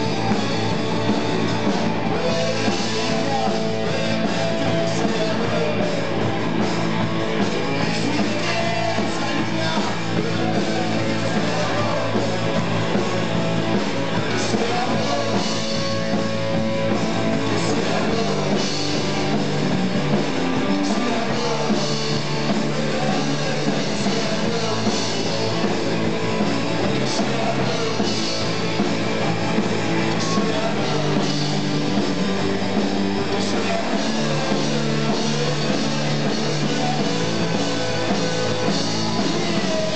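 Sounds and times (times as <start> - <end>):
bass line: 0.0 - 39.9
electric guitars: 0.0 - 39.9.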